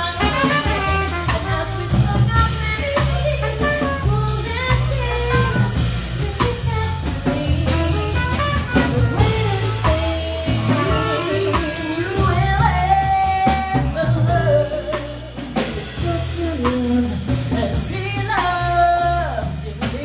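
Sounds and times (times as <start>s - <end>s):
double bass: 0.0s - 20.0s
drum kit: 0.0s - 20.0s.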